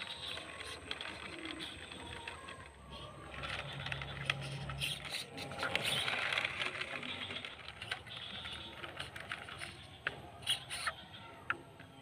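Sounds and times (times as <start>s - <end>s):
toy truck tyres crunching over dirt: 0.0s - 12.0s.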